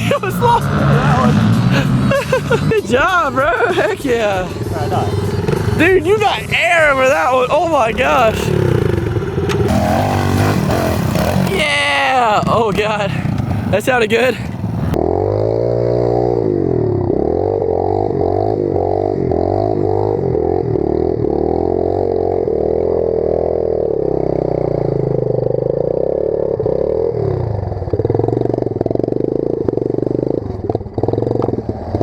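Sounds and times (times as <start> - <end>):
motorbike engine revving: 0.0 - 32.0.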